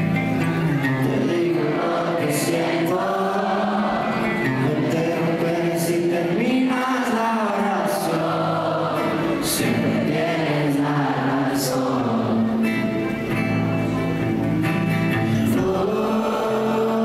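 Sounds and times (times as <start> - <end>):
acoustic guitar: 0.0 - 17.0
man singing: 0.8 - 13.0, 15.2 - 17.0.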